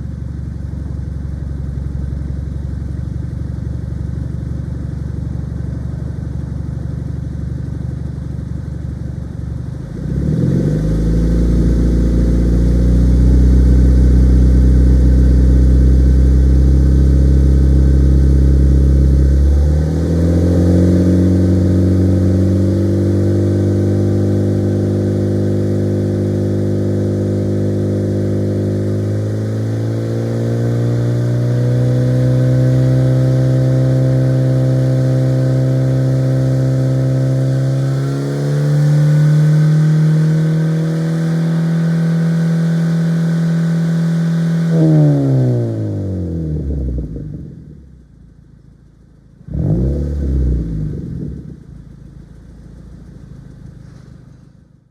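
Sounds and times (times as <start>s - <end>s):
car exhaust revving: 9.8s - 54.7s.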